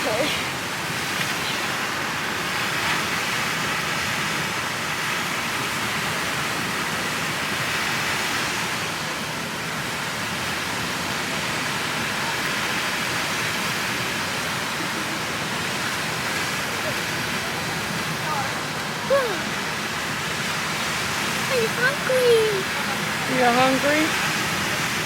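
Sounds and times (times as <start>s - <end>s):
ocean surf rushing: 0.0s - 25.0s.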